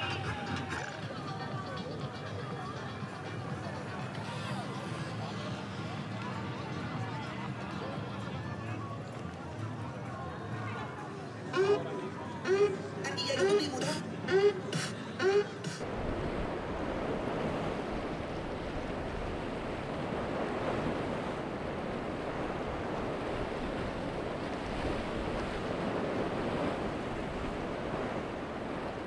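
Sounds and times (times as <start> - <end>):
open water: 0.0 - 15.2, 15.8 - 29.0
wind: 0.0 - 29.0.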